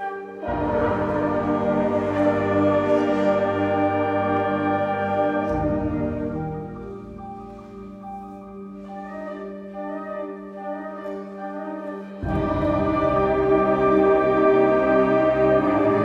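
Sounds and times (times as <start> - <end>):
wind band playing sustained chord: 0.0 - 16.0.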